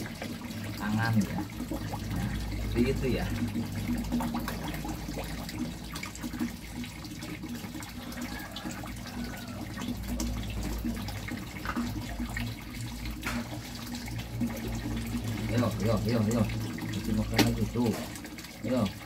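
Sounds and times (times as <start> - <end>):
water pouring into pond: 0.0 - 19.0.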